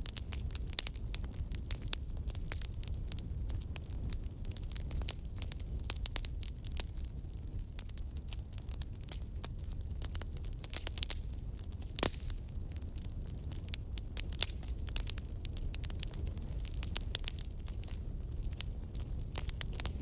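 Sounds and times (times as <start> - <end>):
crackling clicks and pops: 0.0 - 20.0.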